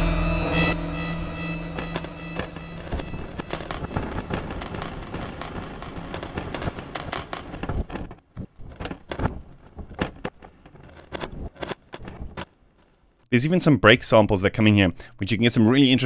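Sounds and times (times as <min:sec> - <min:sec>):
crackling granular clicks: 0:00.0 - 0:13.3.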